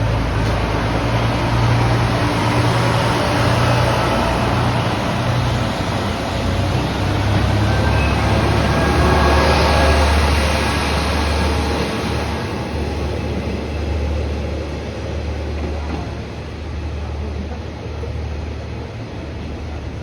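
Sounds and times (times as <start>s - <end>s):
diesel train pulling away: 0.0s - 20.0s.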